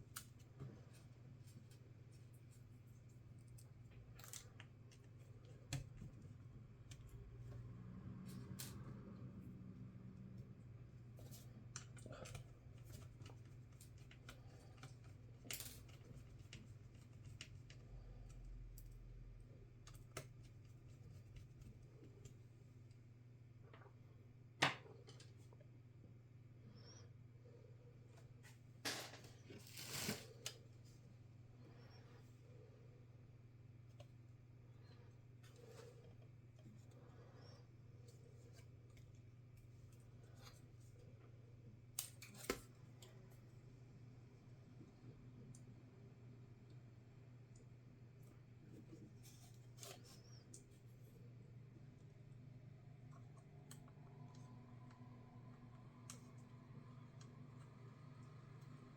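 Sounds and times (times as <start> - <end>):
low steady hum: 0.0 - 58.9.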